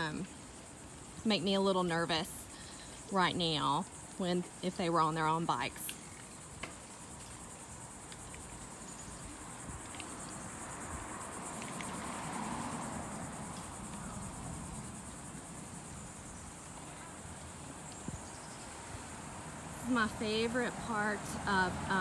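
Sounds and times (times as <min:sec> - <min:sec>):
insect chorus buzzing: 0:00.0 - 0:22.0.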